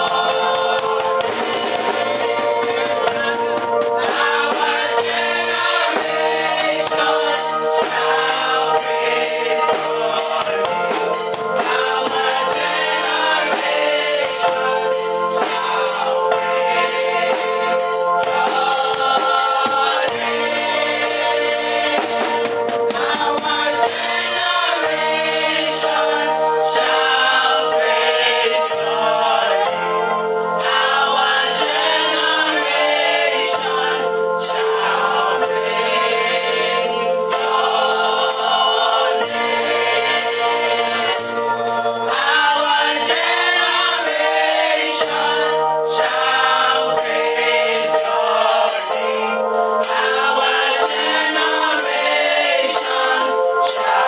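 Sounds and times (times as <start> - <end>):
group singing gospel: 0.0 - 54.0
instrumental accompaniment with beat: 0.0 - 54.0.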